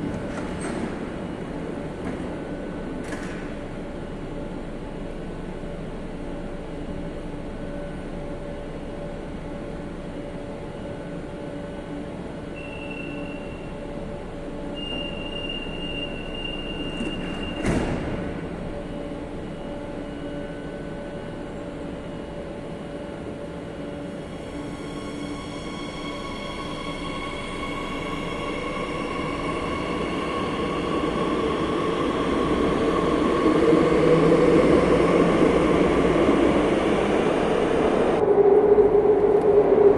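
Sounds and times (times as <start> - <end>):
train running on rails: 0.0 - 39.9.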